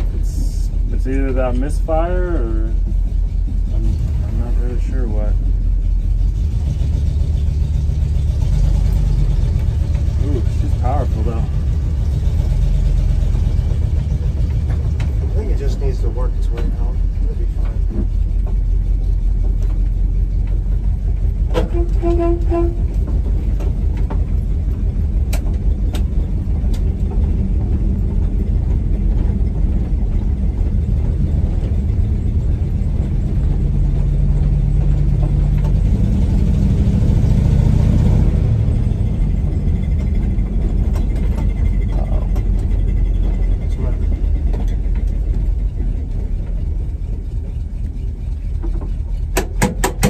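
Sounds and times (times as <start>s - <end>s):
engine rumbling: 0.0s - 50.0s.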